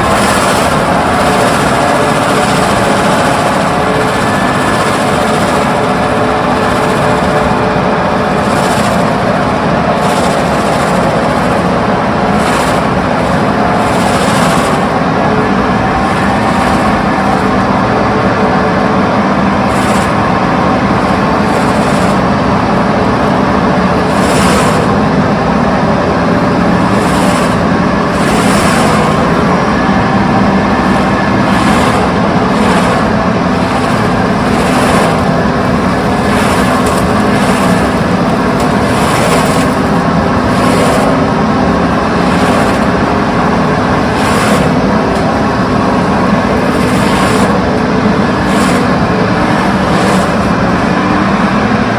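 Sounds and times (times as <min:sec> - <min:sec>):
excavator diesel engine running: 0:00.0 - 0:51.9
hydraulic hissing surges: 0:00.0 - 0:51.9.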